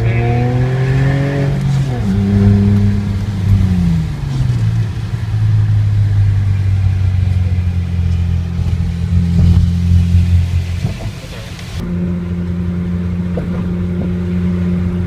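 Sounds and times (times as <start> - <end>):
car engine loud low drone: 0.0 - 15.0.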